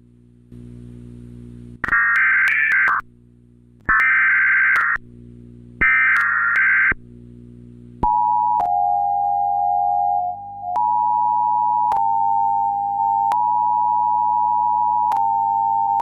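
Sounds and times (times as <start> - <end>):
faint low hum: 0.0 - 1.9, 5.0 - 16.0.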